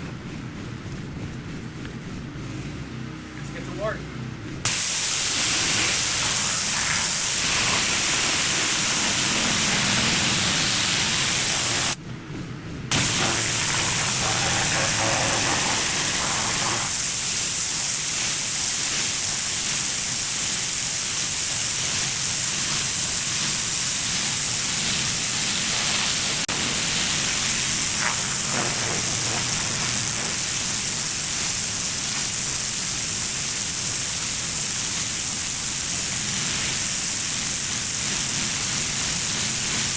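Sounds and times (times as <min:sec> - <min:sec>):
pressure washer water jet hissing: 0:04.7 - 0:12.0, 0:12.9 - 0:39.9.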